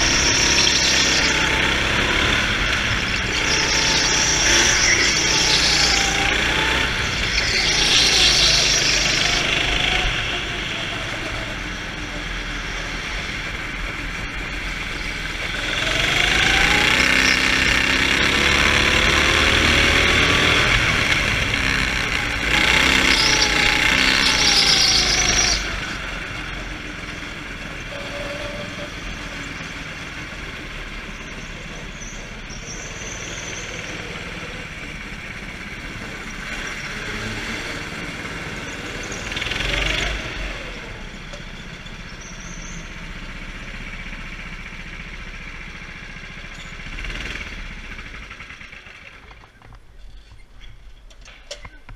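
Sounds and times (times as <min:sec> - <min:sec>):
go-kart engine revving: 0:00.0 - 0:51.9.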